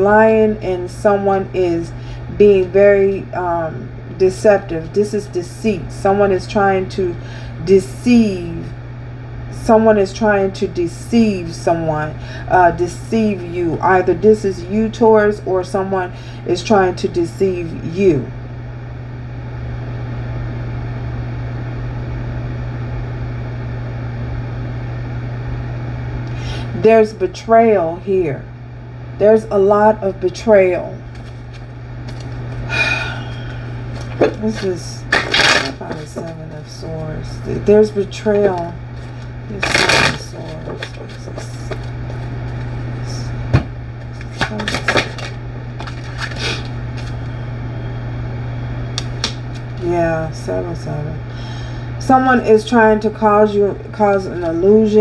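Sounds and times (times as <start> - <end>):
steady low hum with hiss: 0.0 - 55.0.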